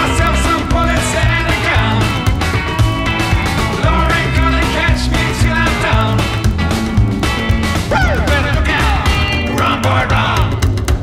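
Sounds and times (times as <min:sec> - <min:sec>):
rock and roll music with guitar: 0:00.0 - 0:11.0.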